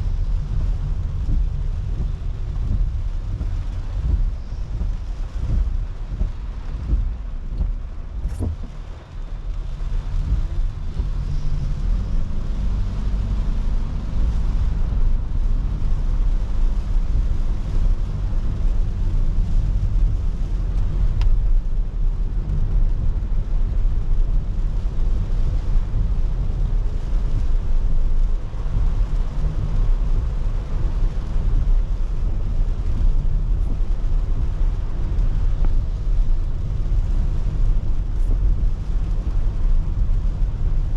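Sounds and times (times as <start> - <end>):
engine and road rumble: 0.0 - 40.9
wet tyres and rain hiss: 0.0 - 40.9.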